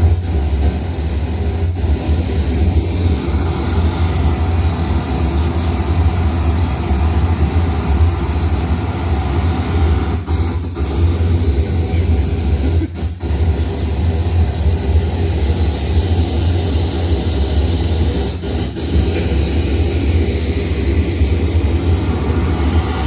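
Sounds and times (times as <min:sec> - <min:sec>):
loud pink noise with heavy bass: 0:00.0 - 0:23.0.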